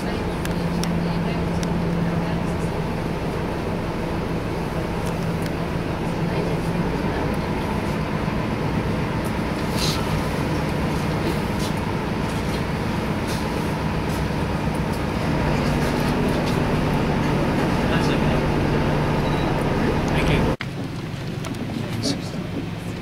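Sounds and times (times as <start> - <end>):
boat engine humming: 0.0 - 23.0.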